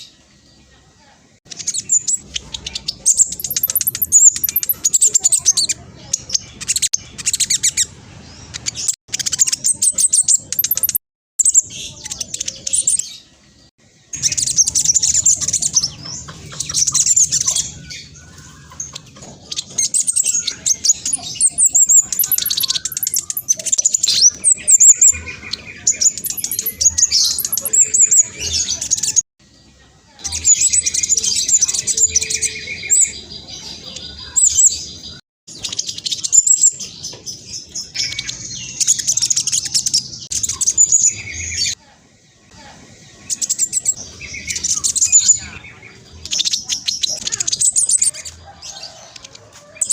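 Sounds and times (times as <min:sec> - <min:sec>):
bird singing rapid trills: 0:01.5 - 0:29.6, 0:30.2 - 0:41.8, 0:43.0 - 0:49.2.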